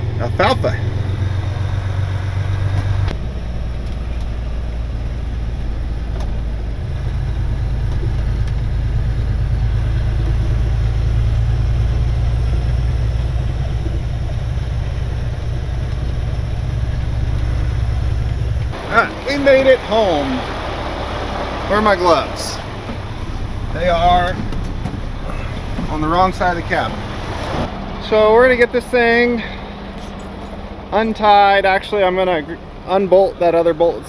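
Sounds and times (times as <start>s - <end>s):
road noise: 0.0s - 34.0s
truck engine running: 0.0s - 34.0s.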